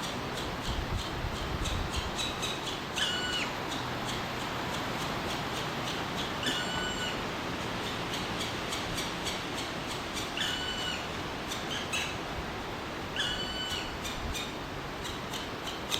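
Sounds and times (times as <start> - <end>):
woodpecker nestlings begging calls: 0.3 - 12.2, 13.1 - 15.9.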